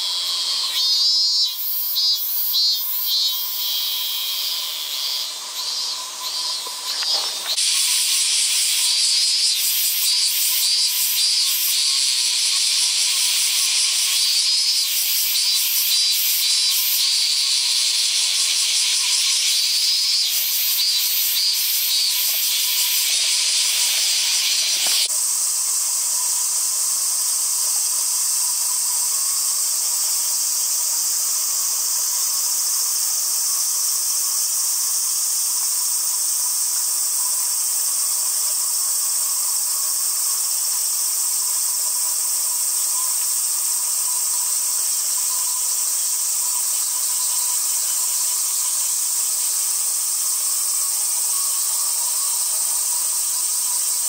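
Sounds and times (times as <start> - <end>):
cicada singing close by: 0.0 - 54.0
high-pitched drone of cicadas: 0.0 - 54.0.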